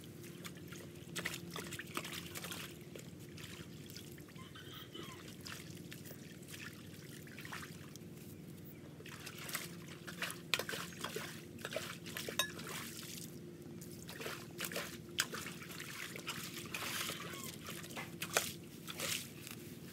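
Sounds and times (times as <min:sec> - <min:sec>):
water trickling in ditch: 0:00.0 - 0:04.4, 0:05.1 - 0:19.7
rubber boots wading: 0:00.2 - 0:04.4, 0:05.2 - 0:08.2, 0:09.0 - 0:13.3, 0:13.9 - 0:19.9.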